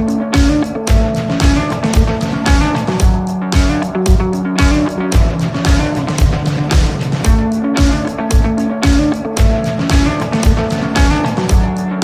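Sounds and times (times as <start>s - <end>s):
guitar: 0.0s - 12.0s
kick drum beat: 0.0s - 12.0s.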